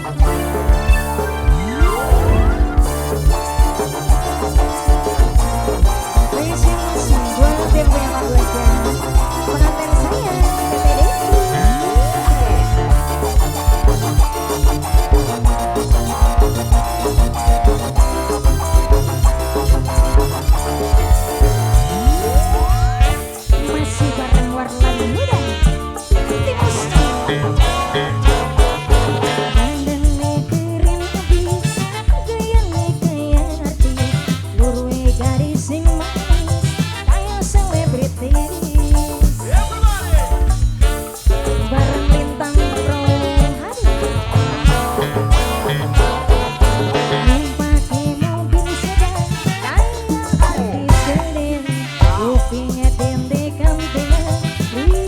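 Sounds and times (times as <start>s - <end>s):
wavering melody line: 0.0s - 31.0s, 38.4s - 52.2s
music with heavy bass beat: 0.0s - 32.8s, 33.4s - 55.0s.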